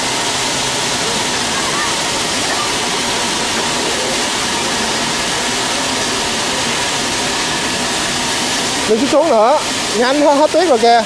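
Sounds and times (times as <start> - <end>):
snow machine rushing noise: 0.0 - 11.0.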